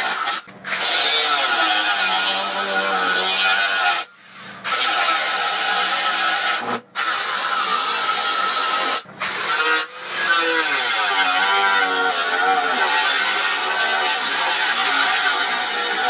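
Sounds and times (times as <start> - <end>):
electric power tool cutting steel: 0.0 - 16.0.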